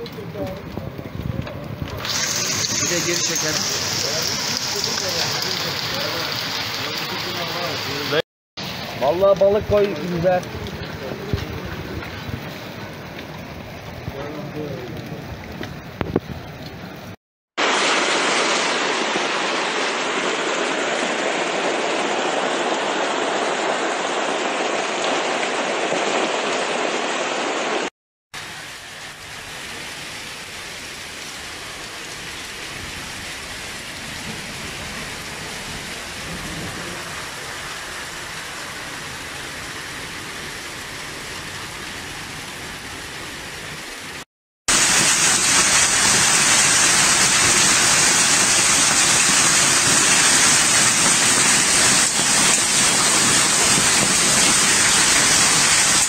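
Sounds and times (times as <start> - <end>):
heavy rain and hail on pavement: 0.0 - 56.0.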